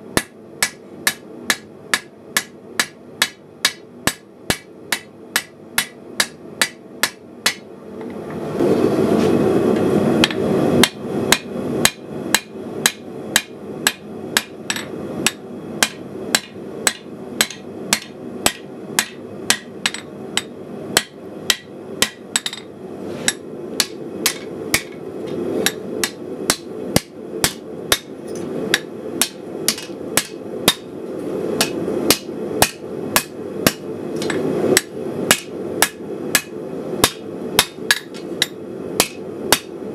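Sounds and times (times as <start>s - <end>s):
hammer striking metal on anvil: 0.1s - 7.7s, 10.2s - 22.7s, 23.3s - 25.0s, 25.6s - 28.1s, 28.7s - 30.9s, 31.6s - 39.8s.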